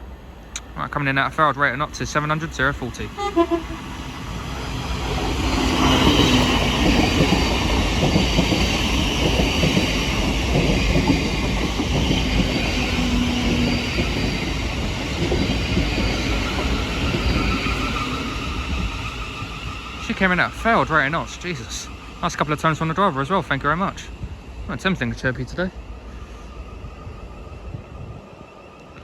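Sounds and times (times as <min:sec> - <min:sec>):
electric train arriving: 0:00.0 - 0:29.0.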